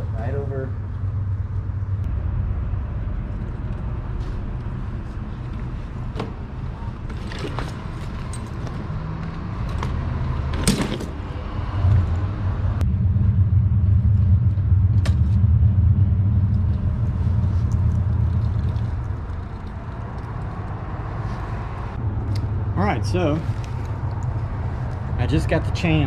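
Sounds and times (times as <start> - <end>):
motor vehicle engine running: 0.0 - 26.0.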